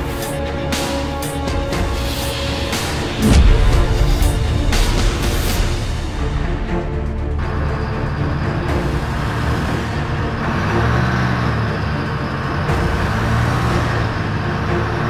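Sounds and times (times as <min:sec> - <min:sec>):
truck engine driving past: 0:02.6 - 0:15.0.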